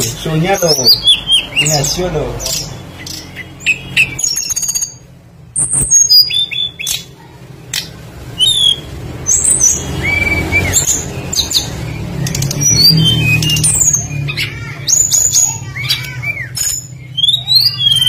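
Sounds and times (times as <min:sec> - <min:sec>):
songbird singing chirps and whistles: 0:00.6 - 0:18.0.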